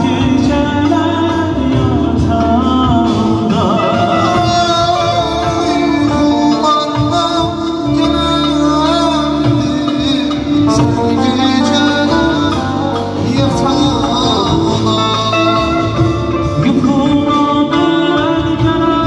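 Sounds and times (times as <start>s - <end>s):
keyboard and drum accompaniment: 0.0s - 19.0s
man singing through microphone: 0.0s - 19.0s.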